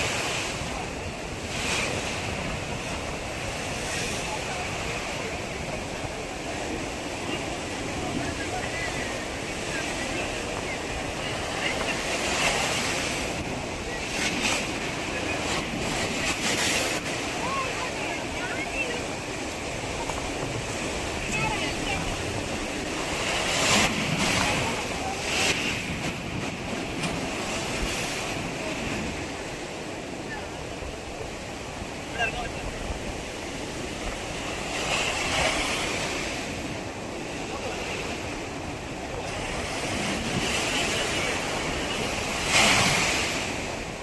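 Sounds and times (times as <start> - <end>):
ocean surf washing onto beach: 0.0 - 44.0
wave breaking: 0.0 - 44.0
wind on microphone: 0.0 - 44.0.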